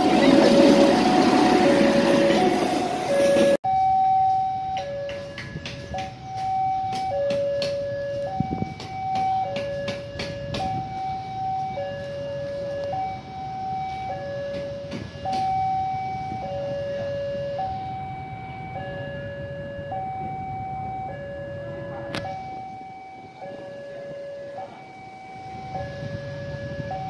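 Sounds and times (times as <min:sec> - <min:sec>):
level crossing alarm two-note tone: 0:00.0 - 0:27.0.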